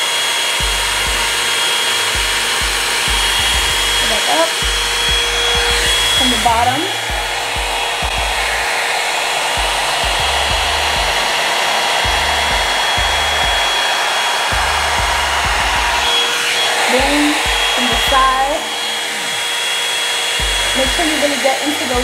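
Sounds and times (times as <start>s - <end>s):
hair dryer brush blowing air: 0.0s - 22.0s.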